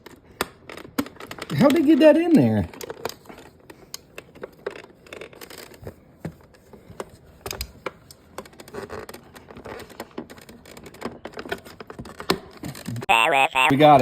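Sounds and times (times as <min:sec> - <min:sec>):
plastic parts clicking and scraping: 0:00.0 - 0:13.1.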